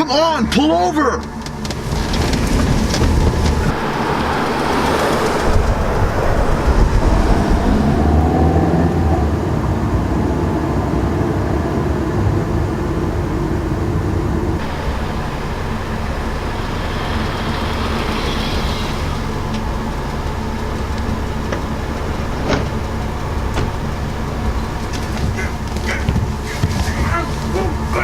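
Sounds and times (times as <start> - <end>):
van engine rumbling: 0.0 - 28.0.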